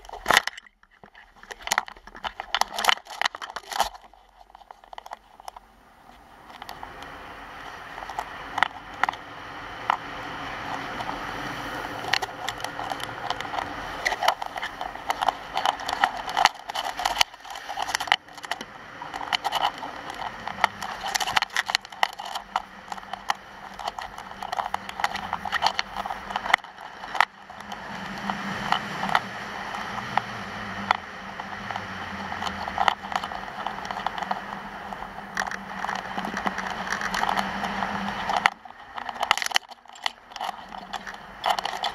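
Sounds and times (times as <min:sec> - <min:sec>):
skis scraping on hard snow: 0:00.0 - 0:41.9.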